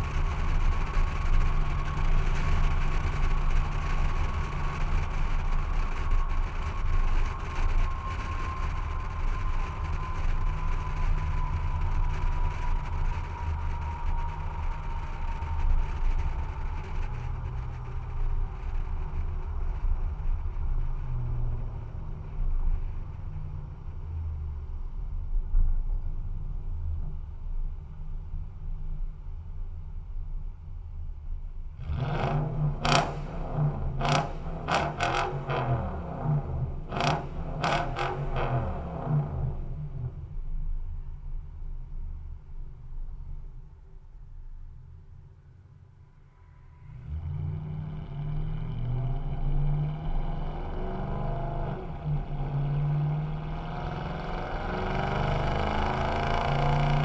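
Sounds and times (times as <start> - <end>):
steady whine: 0.0 - 47.4
low exhaust rumble: 0.0 - 57.0
tyre and road noise: 0.0 - 57.0.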